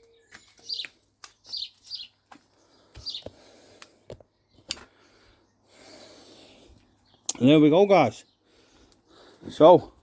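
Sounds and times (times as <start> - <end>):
small bird chirping: 0.0 - 3.5, 4.3 - 9.3.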